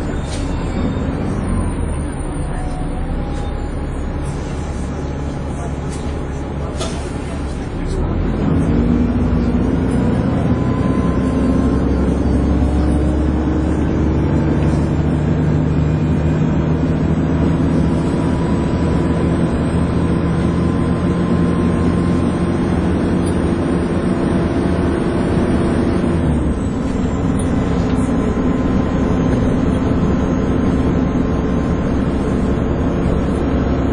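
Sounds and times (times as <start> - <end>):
bus engine whining: 0.0 - 33.9.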